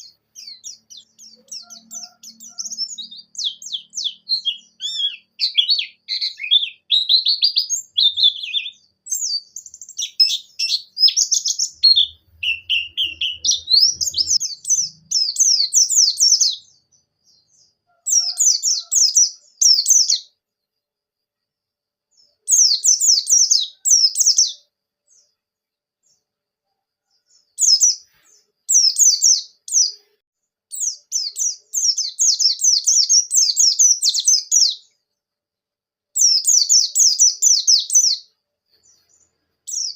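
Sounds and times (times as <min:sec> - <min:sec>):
bird twittering song: 0:00.0 - 0:20.4, 0:22.1 - 0:25.4, 0:27.0 - 0:30.1, 0:30.7 - 0:35.2, 0:36.2 - 0:39.9.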